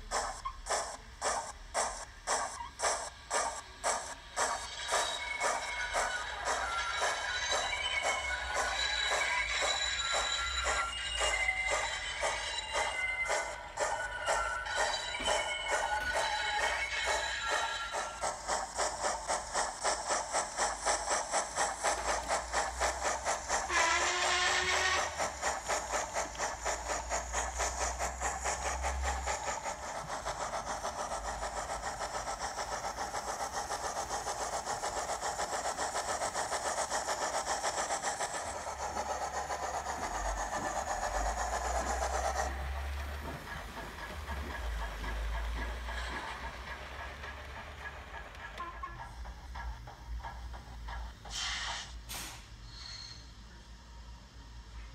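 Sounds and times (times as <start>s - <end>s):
steam hiss: 0.0s - 54.8s
model train steam chuffs: 0.0s - 54.9s.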